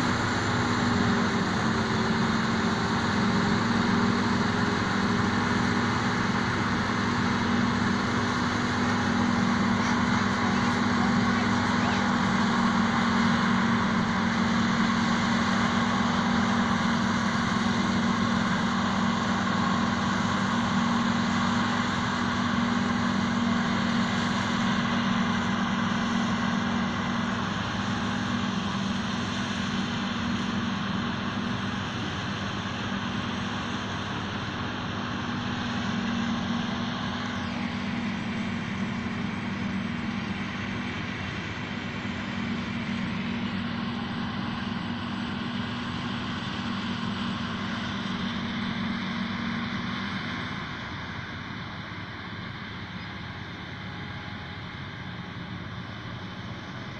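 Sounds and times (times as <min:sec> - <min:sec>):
forage harvester drone: 0:00.0 - 0:56.9.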